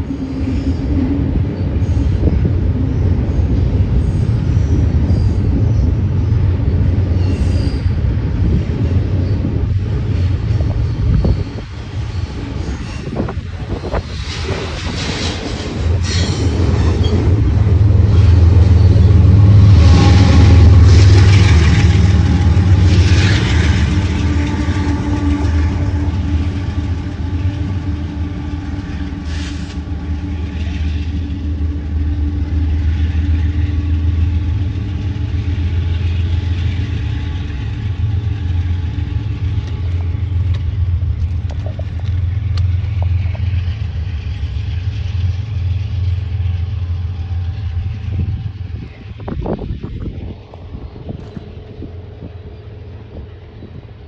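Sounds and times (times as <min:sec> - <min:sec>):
diesel locomotive hum: 0:00.0 - 0:54.0
freight train rumbling: 0:00.0 - 0:54.0.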